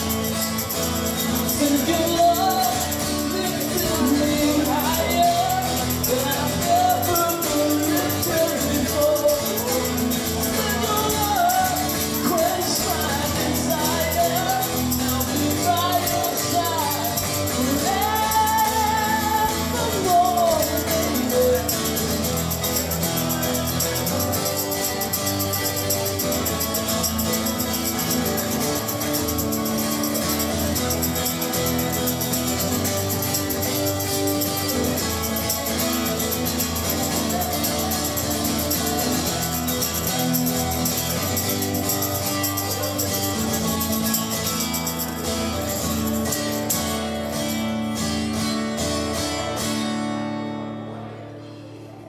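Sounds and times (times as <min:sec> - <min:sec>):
tambourine: 0:00.0 - 0:50.3
electric guitar: 0:00.0 - 0:52.0.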